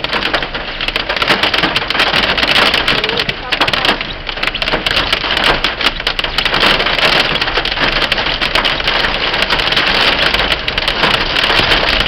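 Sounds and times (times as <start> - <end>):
hailstones clattering: 0.0 - 12.0
heavy rain: 0.0 - 12.0.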